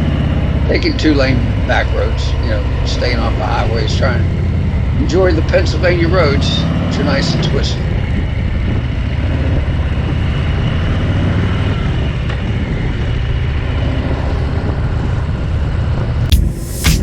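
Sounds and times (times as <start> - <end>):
motorcycle engine cruising: 0.0 - 17.0.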